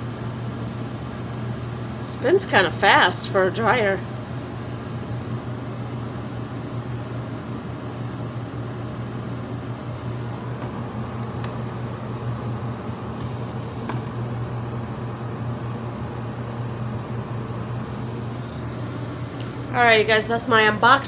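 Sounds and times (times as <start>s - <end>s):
clothes dryer motor humming: 0.0s - 21.0s.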